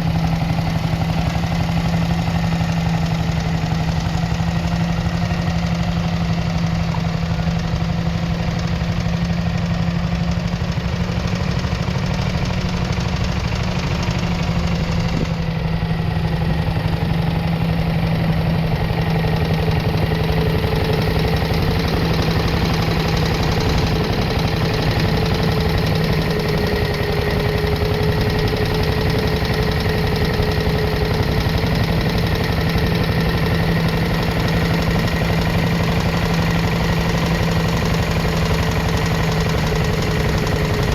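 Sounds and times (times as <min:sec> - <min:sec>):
single-cylinder engine running: 0:00.0 - 0:40.9.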